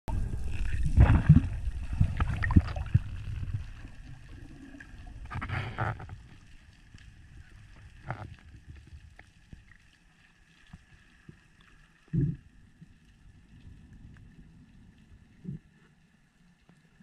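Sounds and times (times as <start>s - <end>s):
underwater rush of water: 0.1s - 16.2s.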